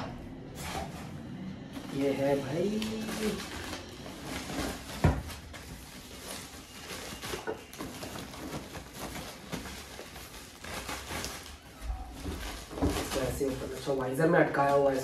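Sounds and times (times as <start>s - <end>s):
plastic bag rustling: 0.3s - 15.0s.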